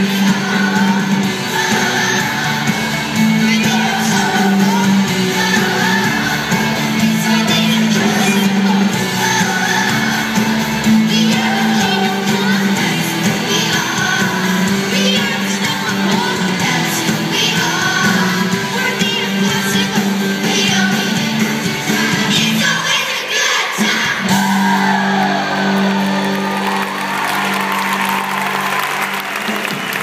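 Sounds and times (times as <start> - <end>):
children's choir singing: 0.0 - 26.2
amplified band music: 0.0 - 30.0.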